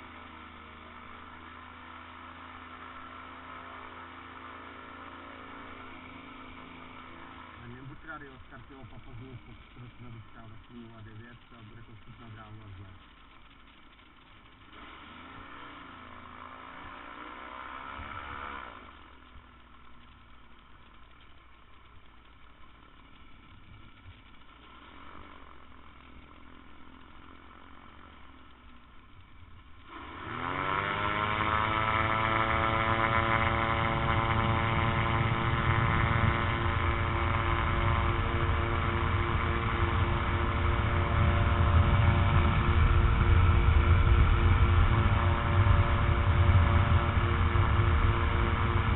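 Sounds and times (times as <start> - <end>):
aircraft engine revving to full power: 0.0 - 48.9.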